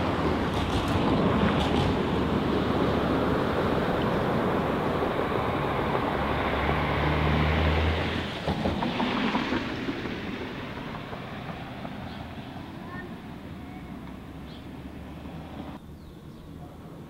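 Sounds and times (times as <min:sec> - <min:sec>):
distant traffic: 0:00.0 - 0:17.0
wind: 0:00.0 - 0:17.0.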